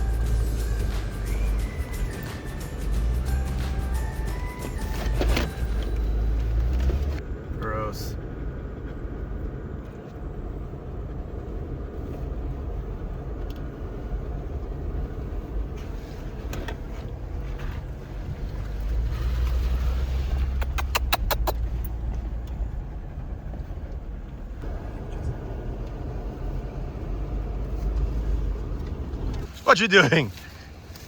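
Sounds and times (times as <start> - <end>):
car engine rumble: 0.0 - 31.0.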